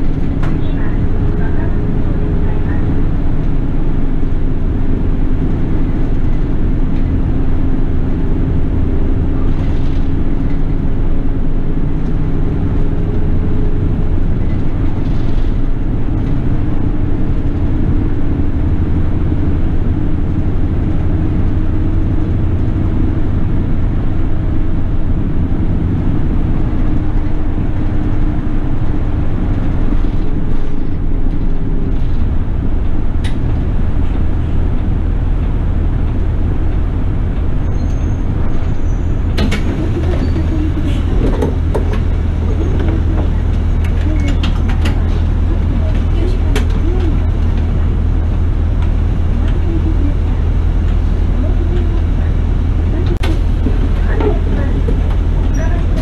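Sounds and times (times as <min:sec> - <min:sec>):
bus diesel engine humming: 0:00.0 - 0:56.0
road rumble: 0:00.0 - 0:56.0.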